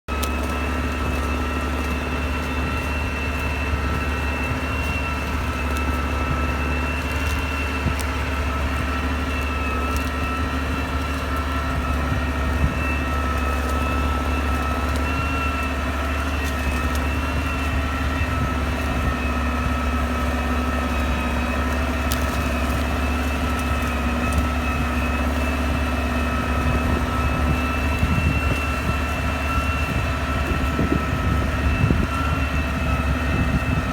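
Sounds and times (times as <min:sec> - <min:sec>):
high whine: 0:00.1 - 0:33.9
tractor engine running under load: 0:00.1 - 0:33.9.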